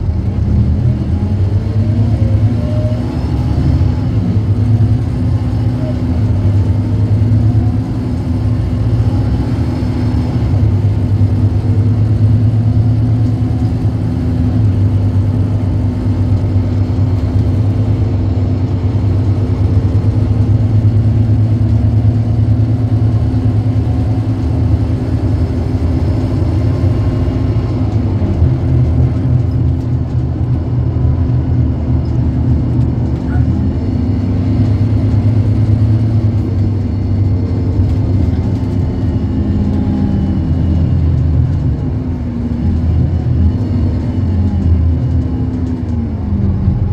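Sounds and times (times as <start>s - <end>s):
bus diesel engine running: 0.0s - 46.9s.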